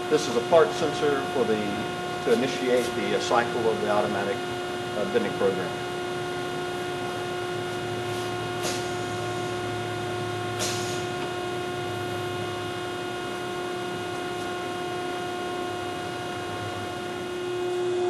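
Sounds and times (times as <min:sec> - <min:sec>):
electrical hum with pitched tone: 0:00.0 - 0:18.0.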